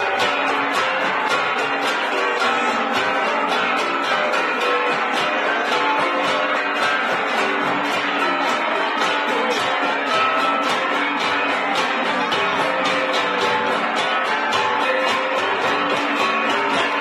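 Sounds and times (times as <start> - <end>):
hand-held gongs beaten rhythmically: 0.0 - 17.0.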